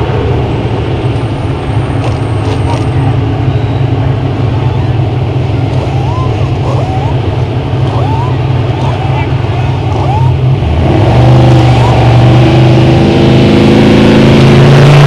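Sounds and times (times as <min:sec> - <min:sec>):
truck engine idling: 0:00.0 - 0:13.1.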